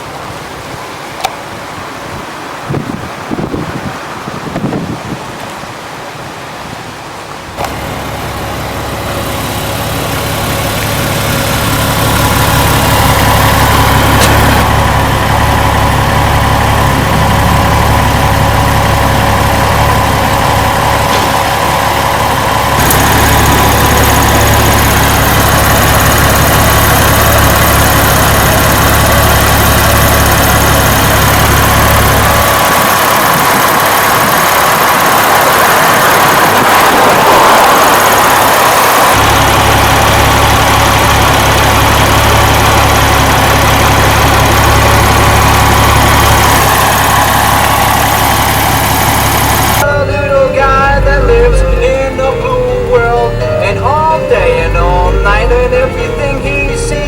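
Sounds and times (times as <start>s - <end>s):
car engine running: 7.6s - 57.0s.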